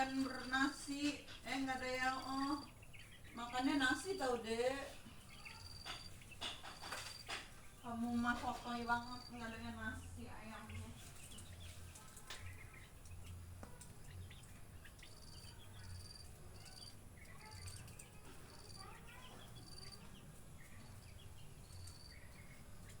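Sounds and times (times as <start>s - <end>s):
bird chirps and calls: 0.0s - 23.0s.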